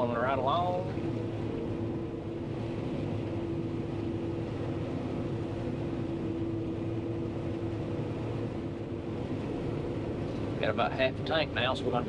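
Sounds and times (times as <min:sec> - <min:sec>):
combine engine and machinery drone: 0:00.0 - 0:12.0
constant whine: 0:00.0 - 0:12.0.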